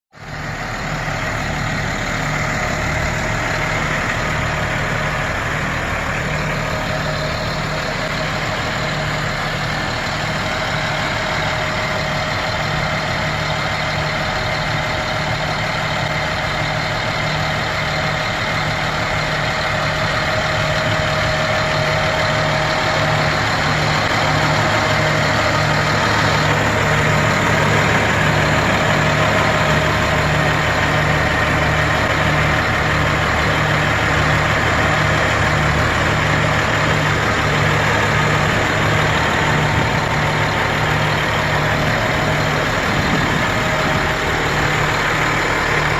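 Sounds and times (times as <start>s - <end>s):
truck engine idling: 0.1s - 45.9s.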